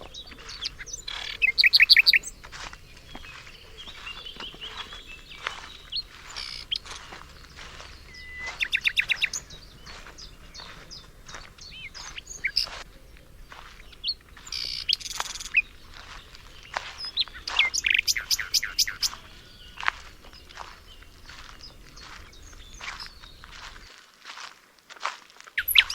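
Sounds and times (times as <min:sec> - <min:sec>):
bird trills: 0:00.0 - 0:23.9, 0:25.6 - 0:25.9
songbirds chirping: 0:00.0 - 0:24.5, 0:25.5 - 0:25.9.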